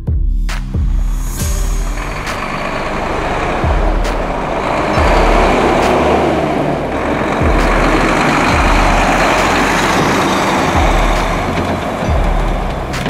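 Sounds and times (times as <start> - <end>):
truck driving past: 0.9 - 13.0.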